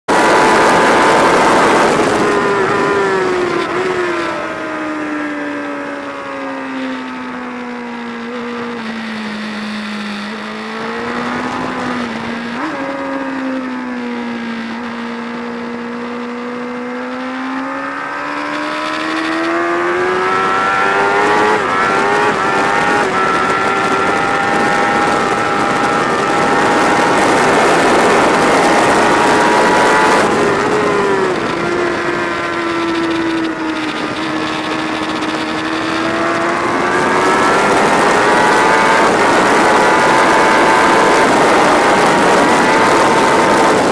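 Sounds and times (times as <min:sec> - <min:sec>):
motorcycle engine revving: 0:00.1 - 0:43.9
wind rush: 0:00.1 - 0:43.9.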